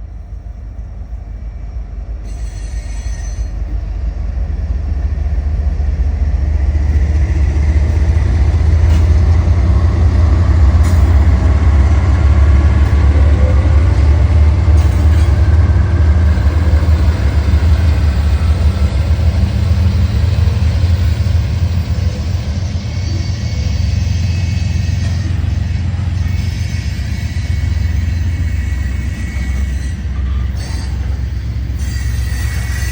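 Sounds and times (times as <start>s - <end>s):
freight train rumbling past: 0.0s - 32.9s.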